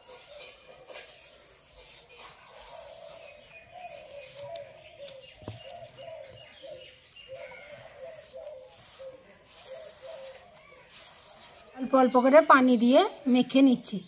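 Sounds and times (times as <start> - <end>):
bird cooing: 0.0 - 11.4
hand rubbing dry flour: 0.0 - 12.4.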